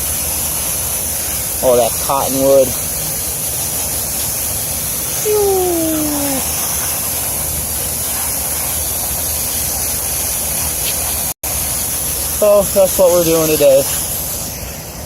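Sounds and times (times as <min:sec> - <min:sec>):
water spray hissing: 0:00.0 - 0:15.0.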